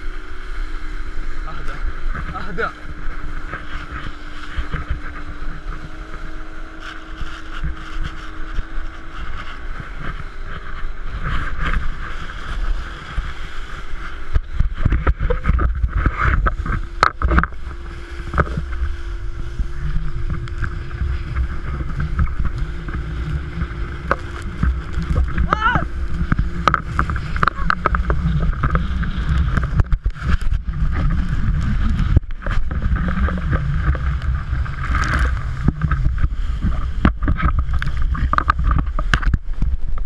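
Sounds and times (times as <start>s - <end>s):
faint boat engine hum: 0.0s - 40.0s
water rushing: 0.0s - 40.0s
wind buffeting camera: 0.0s - 40.0s.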